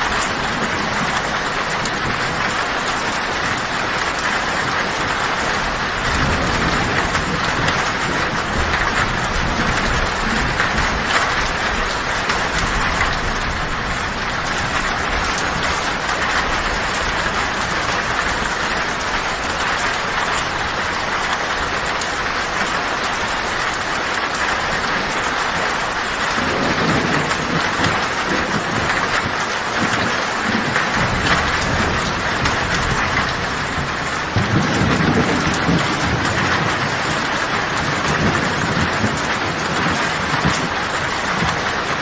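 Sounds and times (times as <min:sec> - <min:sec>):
heavy rain on a tin roof: 0:00.0 - 0:42.0
thunder rumbling: 0:00.0 - 0:42.0.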